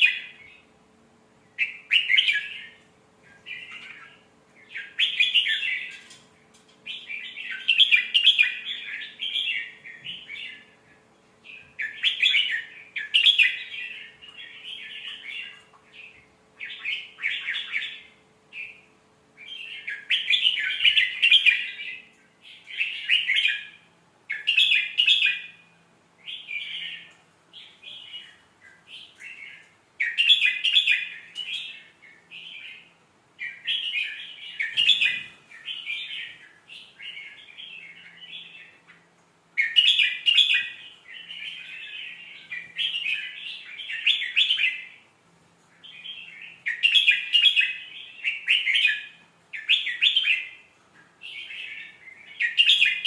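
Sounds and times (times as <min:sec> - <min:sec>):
bird singing warbled phrases: 0:00.0 - 0:53.0.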